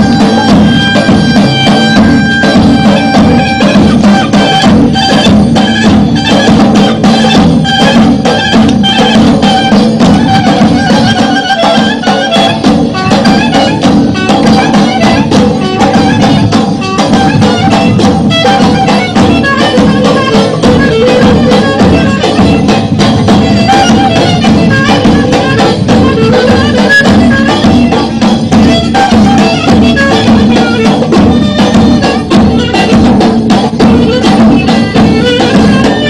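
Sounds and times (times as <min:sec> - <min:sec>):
drum beat: 0:00.0 - 0:36.0
wind instrument melody: 0:00.0 - 0:36.0.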